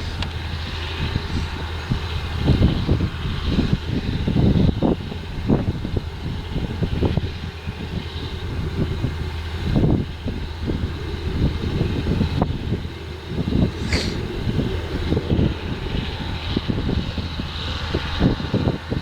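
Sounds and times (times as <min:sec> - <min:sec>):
engine drone: 0:00.0 - 0:19.0
irregular low rumbling: 0:00.0 - 0:19.0.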